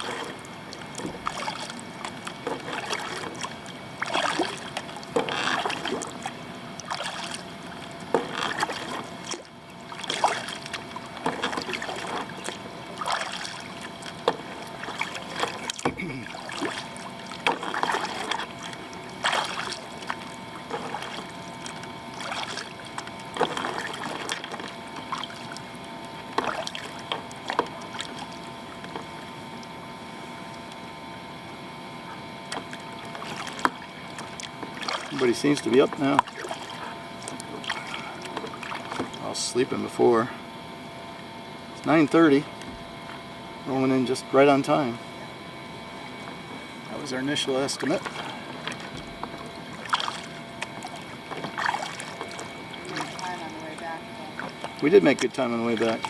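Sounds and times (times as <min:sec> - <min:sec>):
kayak paddle splashing: 0:00.0 - 0:29.8, 0:32.4 - 0:39.4, 0:47.3 - 0:56.0.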